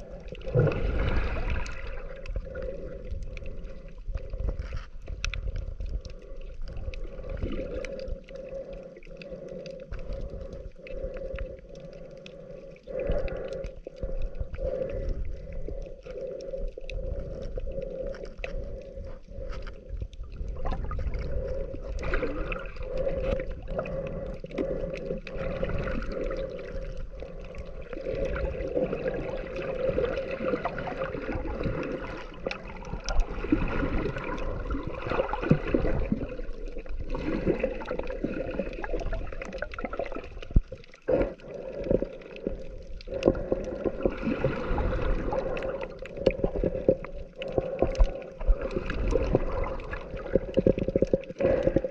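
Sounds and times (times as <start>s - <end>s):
underwater water sloshing and gurgling: 0.0s - 51.9s.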